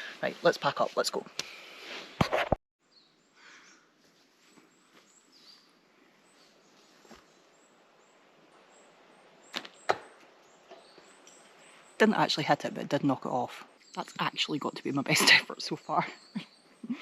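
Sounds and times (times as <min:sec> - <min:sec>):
faint bird chirps: 0:02.9 - 0:17.0.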